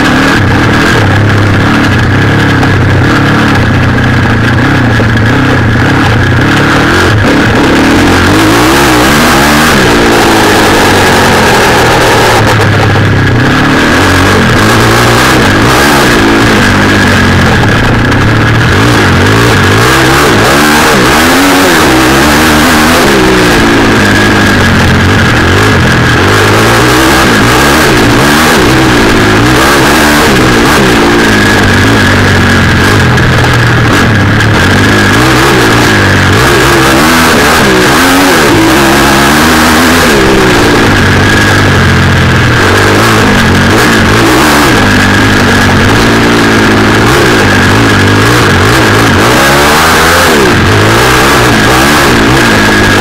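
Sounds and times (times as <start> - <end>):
high-pitched whine: 0.0 - 53.0
off-road engine revving: 0.0 - 53.0.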